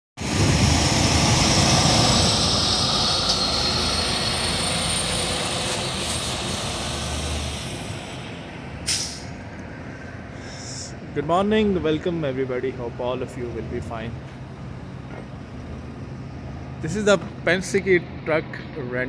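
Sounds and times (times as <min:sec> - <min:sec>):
truck diesel engine rumbling: 0:00.2 - 0:19.0.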